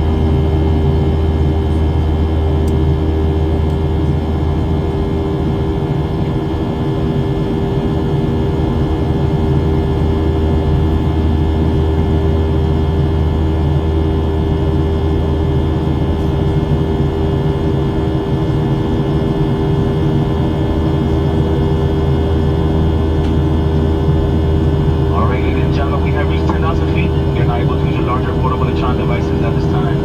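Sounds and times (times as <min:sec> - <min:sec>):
airplane cabin drone: 0:00.0 - 0:30.0.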